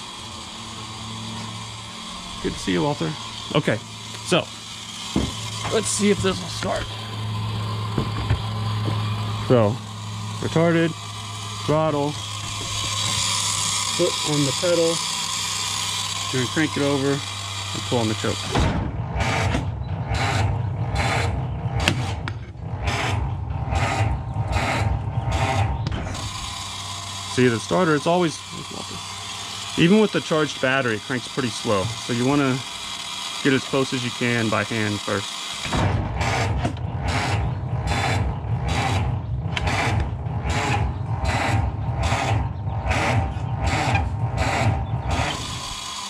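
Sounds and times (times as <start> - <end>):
engine cranking with starter: 0.0 - 46.0.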